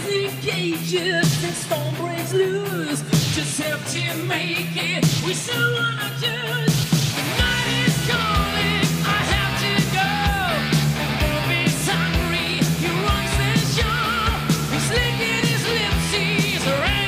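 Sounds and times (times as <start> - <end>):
distorted electric guitars: 0.0 - 17.0
drum beat: 0.0 - 17.0
person singing: 0.0 - 17.0.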